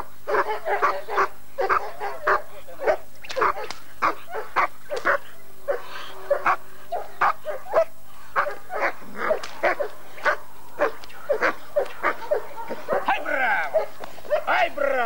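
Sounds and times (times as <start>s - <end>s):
dog barking rapidly: 0.3s - 14.6s.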